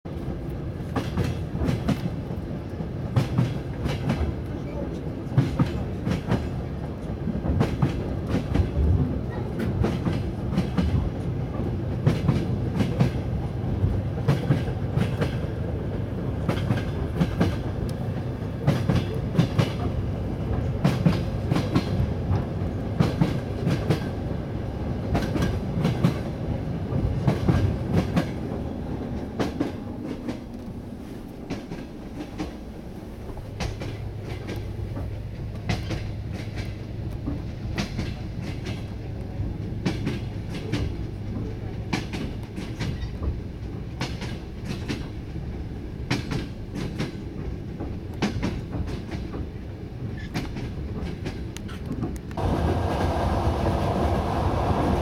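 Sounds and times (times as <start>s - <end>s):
wheels clicking over rail joints: 0.1s - 24.3s, 25.0s - 53.2s
train rumbling on track: 0.1s - 55.0s.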